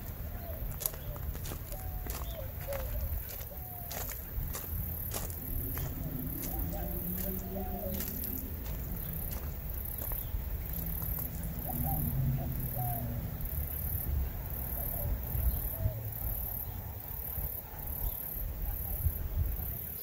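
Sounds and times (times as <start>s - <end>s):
low rumble: 0.0s - 17.5s.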